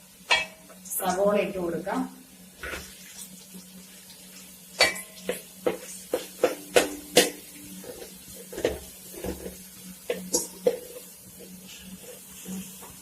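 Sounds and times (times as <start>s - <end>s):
onion frying in oil: 0.0s - 13.0s.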